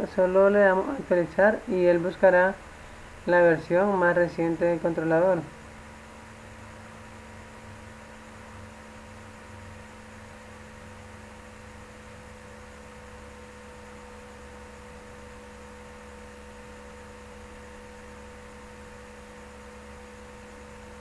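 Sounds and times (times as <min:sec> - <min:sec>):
electrical mains hum: 0:00.0 - 0:21.0
faint steady tones: 0:00.0 - 0:21.0.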